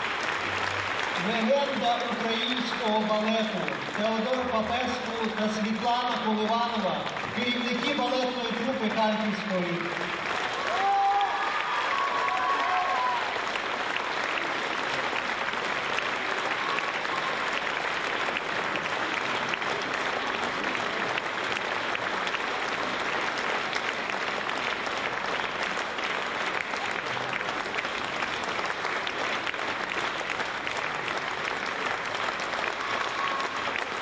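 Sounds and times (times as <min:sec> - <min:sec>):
audience applauding: 0:00.0 - 0:34.0.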